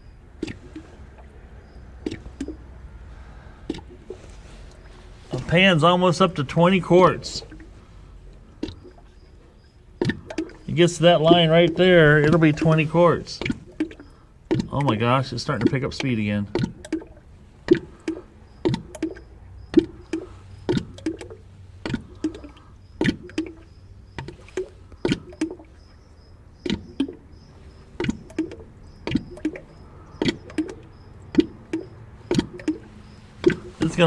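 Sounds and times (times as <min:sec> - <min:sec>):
oil glugging into a drain pan: 0:00.0 - 0:34.0.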